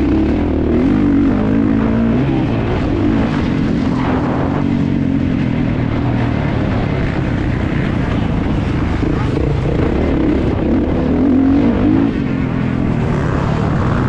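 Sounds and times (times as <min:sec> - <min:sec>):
motorcycle engine running hard: 0:00.0 - 0:14.0.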